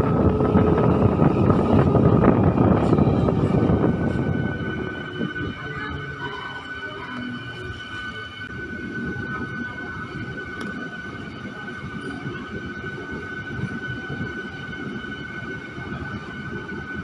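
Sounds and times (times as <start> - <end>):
electric train rumbling: 0.0 - 17.0
high train whine: 0.0 - 17.0.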